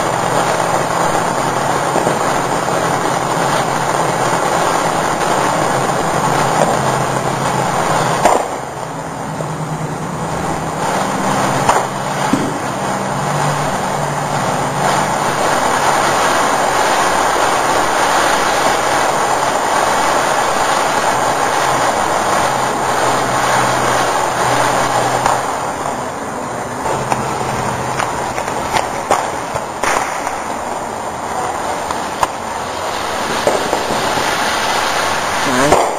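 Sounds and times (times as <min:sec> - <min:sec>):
firework pops: 0:00.0 - 0:09.0, 0:10.7 - 0:13.0, 0:14.4 - 0:25.9, 0:26.8 - 0:35.9
firework fountain hissing: 0:00.0 - 0:35.9.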